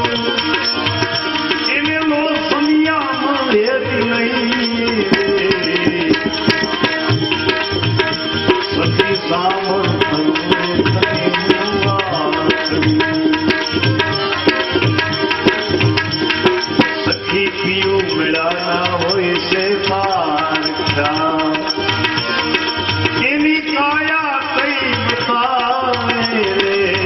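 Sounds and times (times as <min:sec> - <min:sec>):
tabla playing a steady rhythm: 0:00.0 - 0:27.0.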